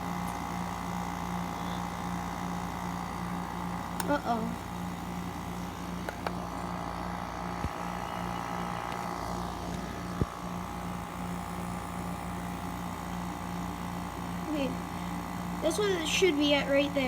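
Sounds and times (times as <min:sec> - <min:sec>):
dehumidifier hum and airflow: 0:00.0 - 0:17.0.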